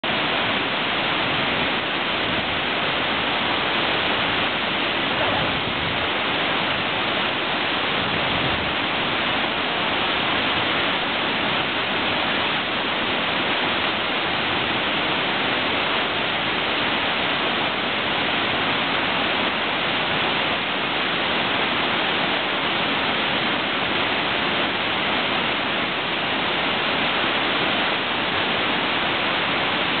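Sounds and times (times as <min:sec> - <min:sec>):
water rushing over a weir: 0:00.0 - 0:30.0.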